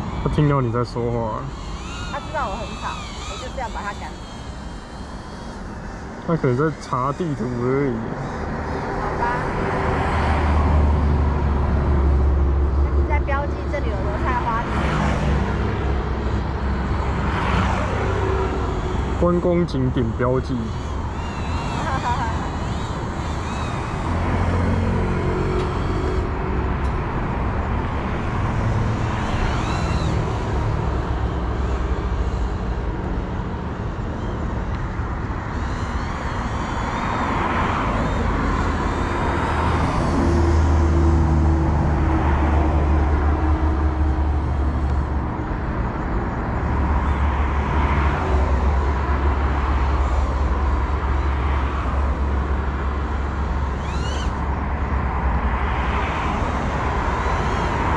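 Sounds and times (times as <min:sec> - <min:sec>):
drone motors whining: 0:00.0 - 0:57.9.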